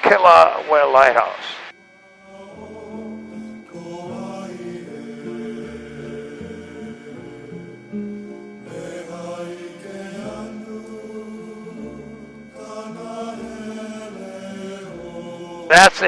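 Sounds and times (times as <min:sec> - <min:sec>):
chant-like vocal music: 0:02.1 - 0:16.0.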